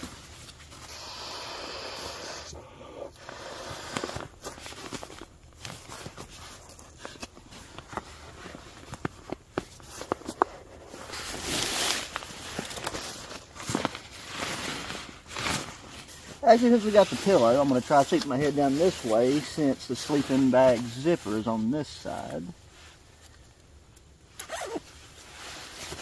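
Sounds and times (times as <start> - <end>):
nylon fabric rustling: 4.0 - 23.3, 24.4 - 26.0.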